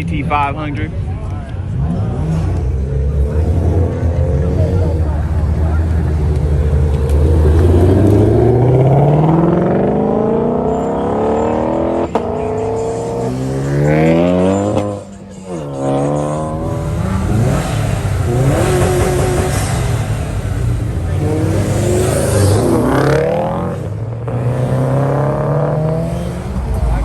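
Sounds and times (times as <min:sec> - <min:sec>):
car engine accelerating hard: 0:00.9 - 0:27.0.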